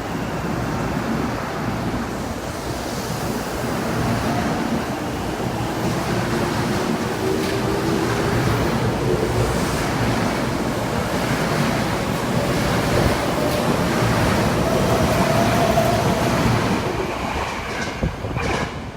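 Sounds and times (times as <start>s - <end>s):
faint train whine: 0.0s - 18.9s
train wheels roaring on rails: 0.0s - 18.9s.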